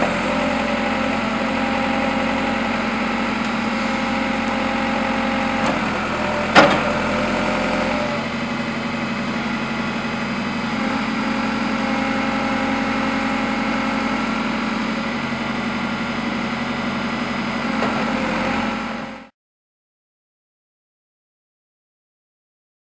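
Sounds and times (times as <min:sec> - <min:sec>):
diesel engine idling: 0:00.0 - 0:19.3.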